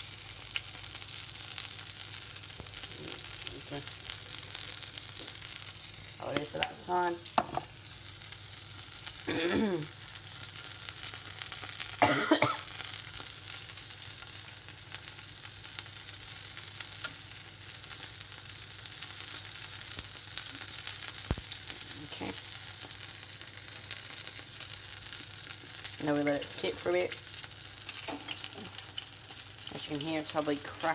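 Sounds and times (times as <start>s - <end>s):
fish frying in hot oil: 0.0s - 30.9s.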